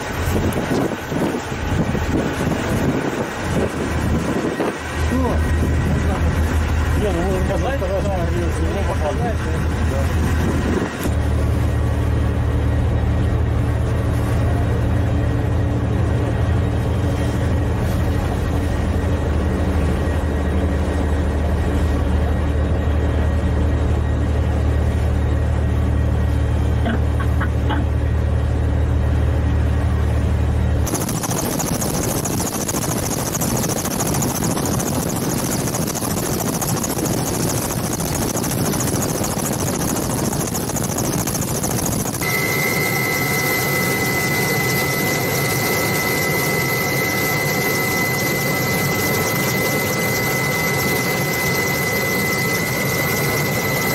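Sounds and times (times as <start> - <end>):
helicopter in flight: 0.0 - 53.9
ship engines droning: 0.0 - 53.9.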